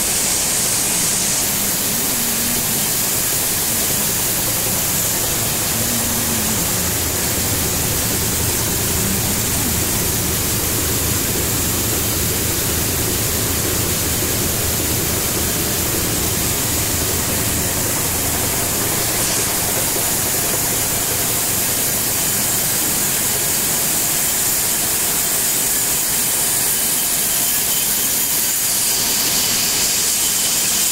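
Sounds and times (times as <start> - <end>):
roaster machine rushing noise: 0.0 - 30.9.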